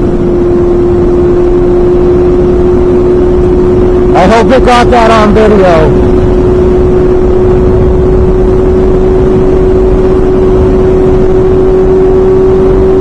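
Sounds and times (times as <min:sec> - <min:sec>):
loud wind rush: 0:00.0 - 0:13.0
motorcycle engine running: 0:00.0 - 0:13.0.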